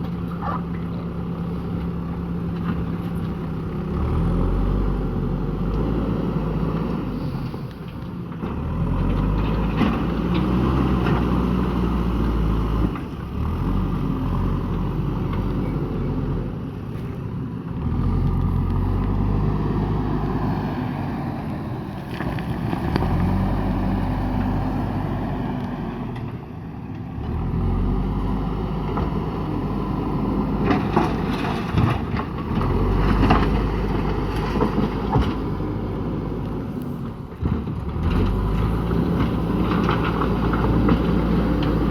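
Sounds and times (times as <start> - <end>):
backhoe diesel engine revving: 0.0 - 41.9.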